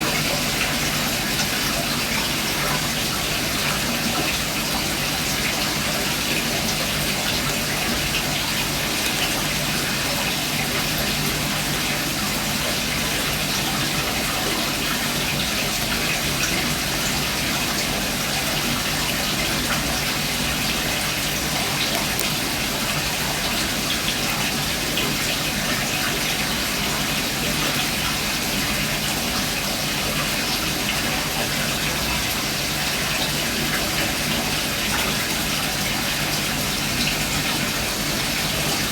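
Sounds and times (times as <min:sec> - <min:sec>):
aquarium water splashing: 0:00.0 - 0:38.9.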